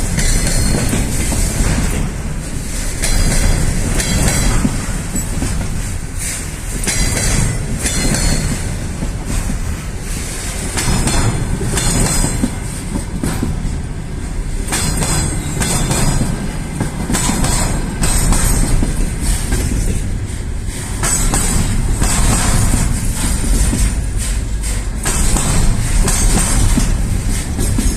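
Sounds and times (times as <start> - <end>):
train wagons rumbling: 0.0 - 27.9
wheels clacking over rail joints: 0.0 - 27.9.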